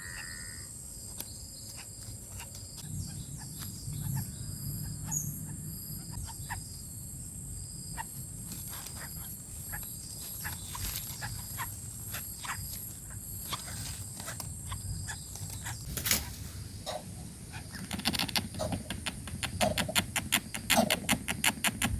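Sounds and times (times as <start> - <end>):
pulsing insect chorus: 0.0 - 21.9.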